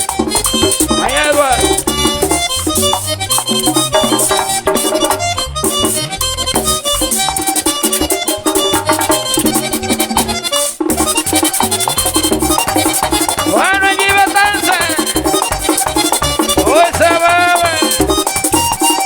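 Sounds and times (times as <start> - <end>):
accordion melody: 0.0 - 19.0
bass line: 0.0 - 19.0
drum beat: 0.0 - 19.0
scraped percussion: 0.0 - 19.0.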